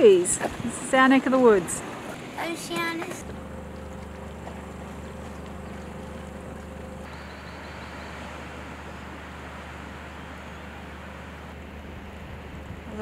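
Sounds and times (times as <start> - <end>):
boat engine drone: 0.0 - 13.0
water noise: 0.0 - 13.0
wind: 0.0 - 13.0.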